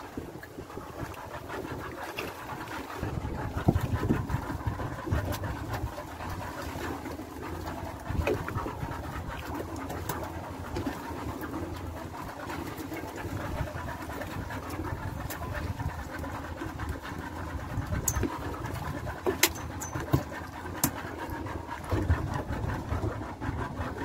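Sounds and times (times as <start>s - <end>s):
boat engine humming: 0.0s - 24.0s
water noise: 0.0s - 24.0s
wind: 0.0s - 24.0s.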